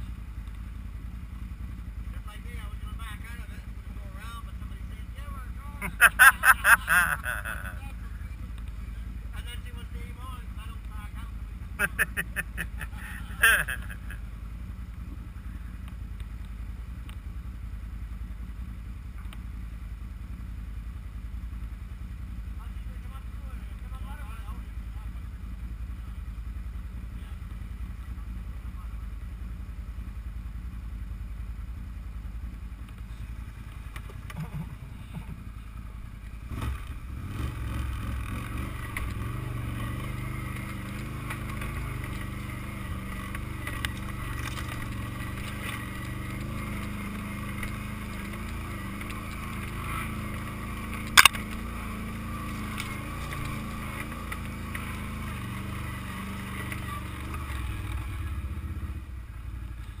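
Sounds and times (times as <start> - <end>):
quad bike engine: 0.0 - 60.0.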